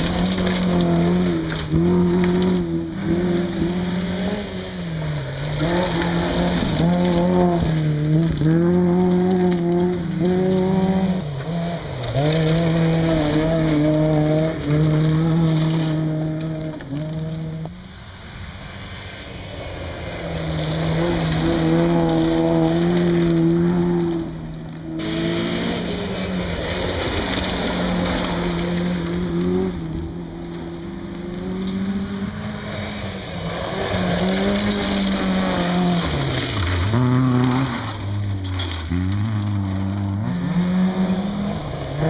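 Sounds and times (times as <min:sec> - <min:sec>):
rally car engines revving by: 0:00.0 - 0:42.0
tyres on loose gravel: 0:00.0 - 0:42.0.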